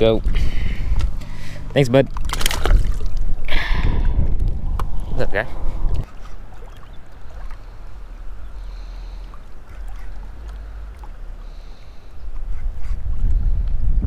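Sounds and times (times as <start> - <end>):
wind rumbling on microphone: 2.1 - 14.0.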